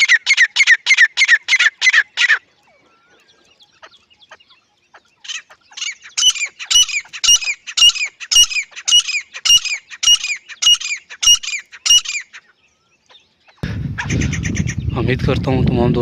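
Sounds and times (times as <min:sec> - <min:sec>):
francolin calling: 0:00.0 - 0:14.9.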